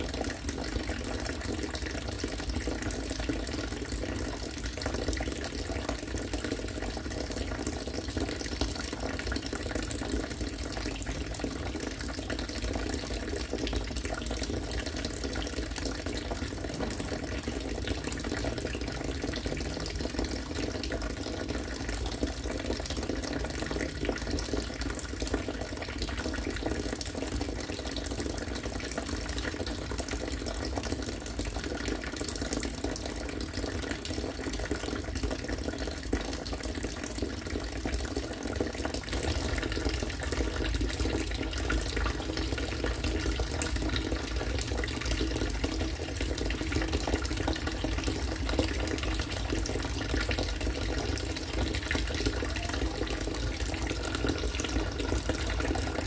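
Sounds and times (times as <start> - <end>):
water pouring into water: 0.0 - 56.0.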